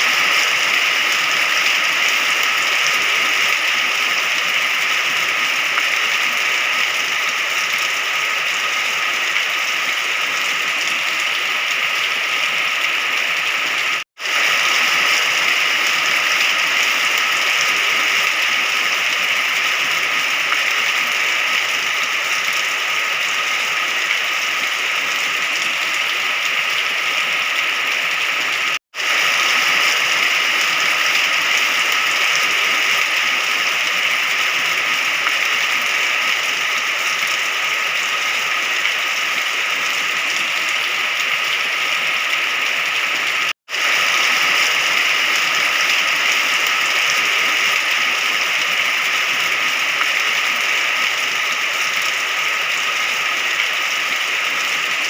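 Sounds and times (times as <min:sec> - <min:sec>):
dense rain hiss: 0:00.0 - 0:55.0.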